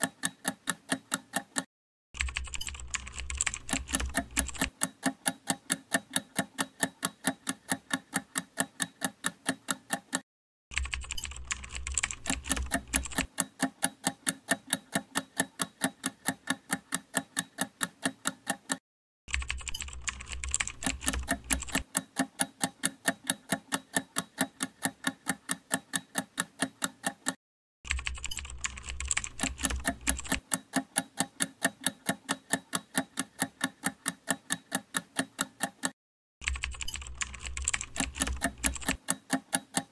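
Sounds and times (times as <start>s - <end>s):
sharp timer clicks: 0.0s - 39.9s.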